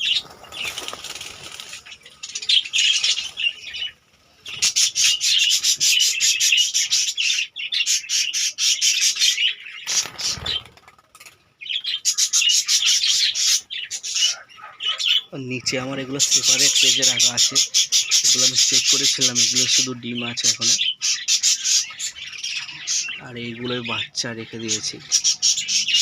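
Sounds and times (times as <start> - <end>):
budgerigars chattering: 0.0 - 10.9, 11.6 - 26.0.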